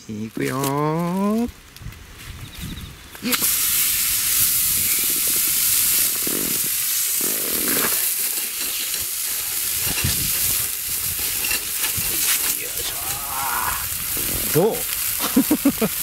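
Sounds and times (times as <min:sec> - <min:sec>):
meat sizzling in a skillet: 0:03.2 - 0:16.0.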